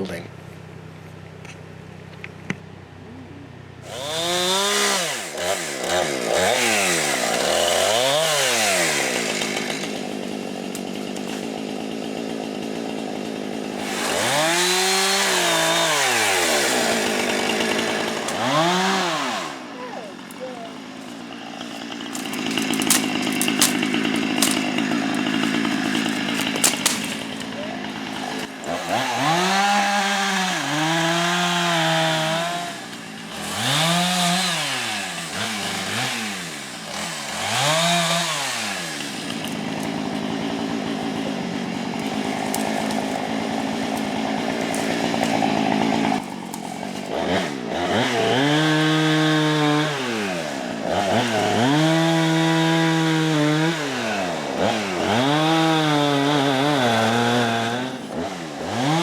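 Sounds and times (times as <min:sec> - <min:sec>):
chainsaw revving: 0:03.7 - 0:59.0.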